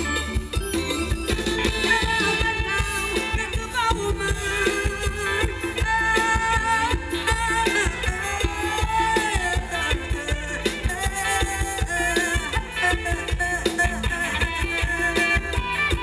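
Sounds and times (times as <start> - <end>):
keyboard: 0.0 - 16.0.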